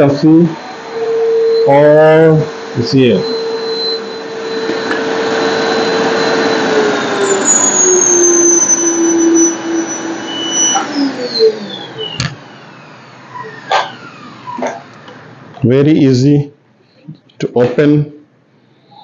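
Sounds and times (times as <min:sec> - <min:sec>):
vacuum motor winding down: 0:00.0 - 0:15.7
vacuum cleaner whining: 0:00.0 - 0:16.2, 0:18.6 - 0:19.0.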